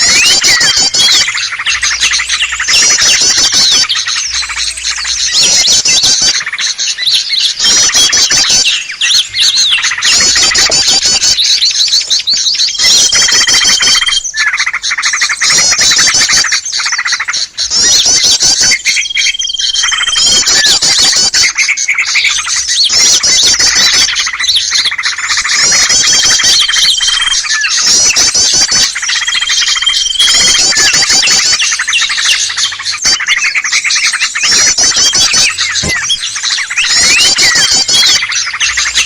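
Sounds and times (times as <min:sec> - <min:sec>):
songbirds chattering and chirping: 0:00.0 - 0:39.0.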